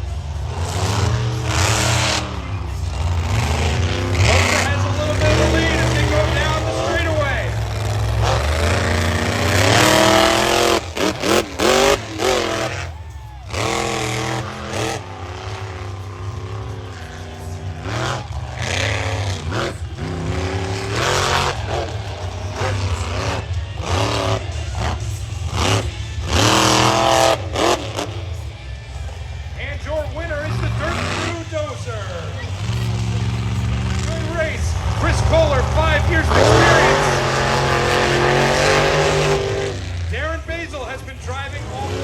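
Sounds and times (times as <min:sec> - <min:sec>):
monster truck engines racing: 0:00.0 - 0:42.0.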